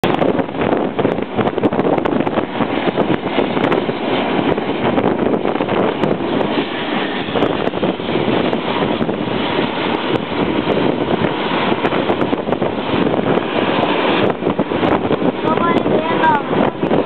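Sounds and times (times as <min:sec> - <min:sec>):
steam train rolling rumble: 0:00.0 - 0:17.0
wind buffeting microphone: 0:00.0 - 0:17.0.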